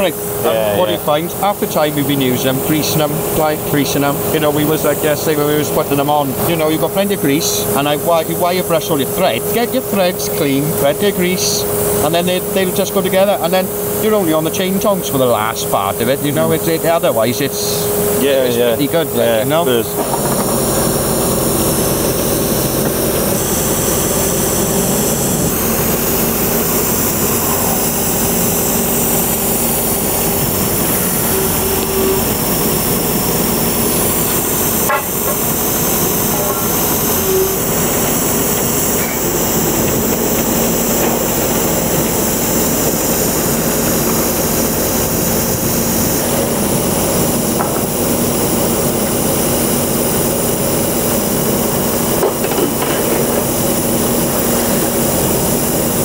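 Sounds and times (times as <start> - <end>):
drilling rig running: 0.0 - 56.0.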